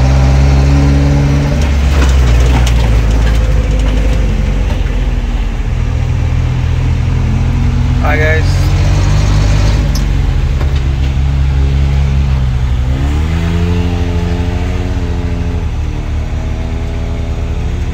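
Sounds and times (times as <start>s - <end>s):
car engine from inside cabin: 0.0s - 17.9s.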